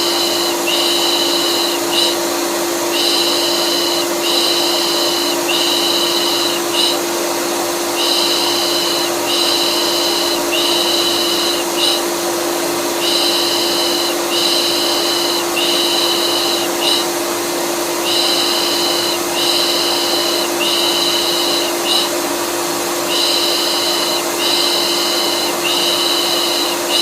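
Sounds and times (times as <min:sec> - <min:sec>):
vacuum cleaner drone: 0:00.0 - 0:27.0.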